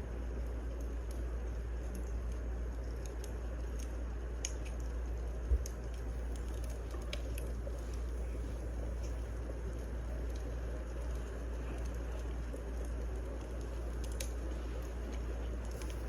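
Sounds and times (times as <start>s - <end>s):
burning firewood crackling: 0.0s - 16.0s
low steady rumble: 0.0s - 16.0s.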